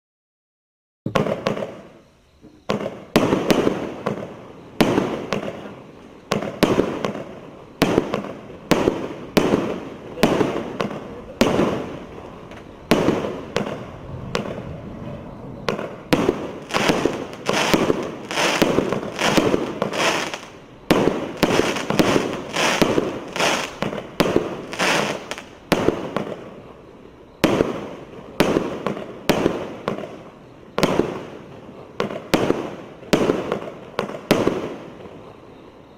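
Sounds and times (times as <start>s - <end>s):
firework shots: 1.1s - 2.0s, 2.6s - 26.7s, 27.3s - 35.4s
crackling firework bursts: 1.1s - 35.9s.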